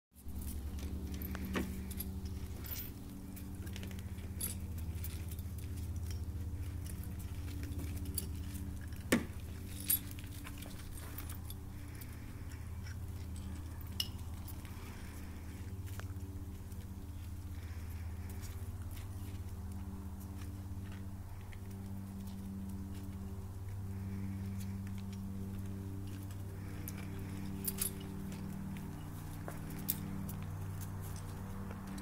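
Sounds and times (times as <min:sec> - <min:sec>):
low mechanical hum: 0:00.2 - 0:32.0
puppies clicking and pattering: 0:00.3 - 0:32.0
small metallic clinks: 0:00.3 - 0:32.0.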